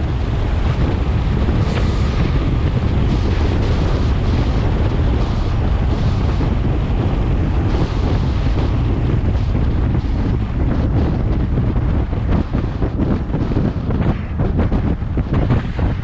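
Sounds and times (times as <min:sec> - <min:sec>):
road noise: 0:00.0 - 0:16.0
wind rushing over microphone: 0:00.0 - 0:16.0.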